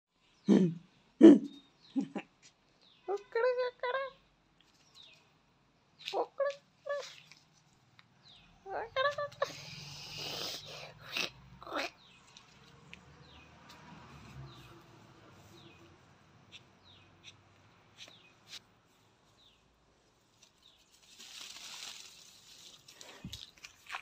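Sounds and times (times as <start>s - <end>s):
faint small birds chirping: 0.1s - 24.0s.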